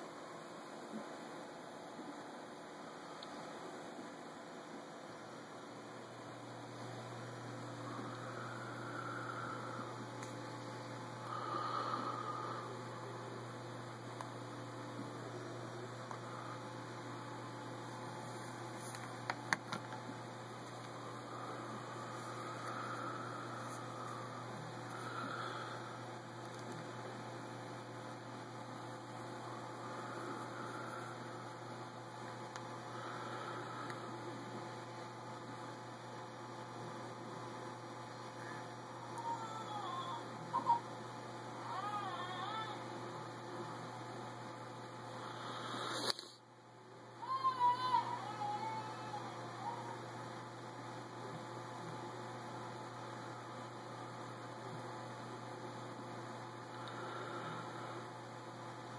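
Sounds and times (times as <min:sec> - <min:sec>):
constant hiss: 0:00.0 - 0:58.9
low electrical hum: 0:00.0 - 0:58.9.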